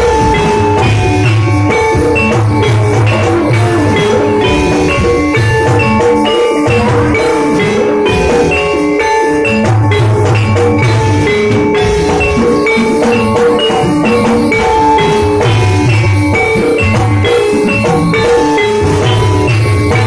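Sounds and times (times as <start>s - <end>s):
drum pattern: 0.0s - 20.0s
metal mallet instruments: 0.0s - 20.0s.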